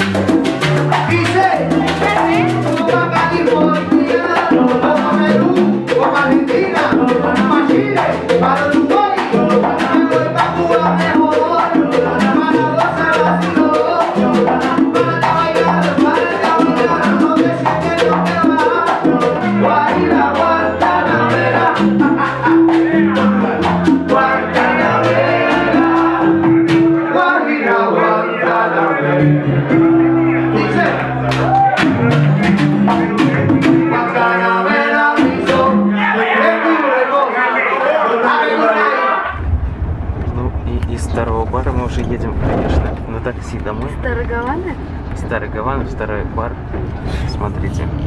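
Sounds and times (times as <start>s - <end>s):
salsa music with singing: 0.0s - 39.6s.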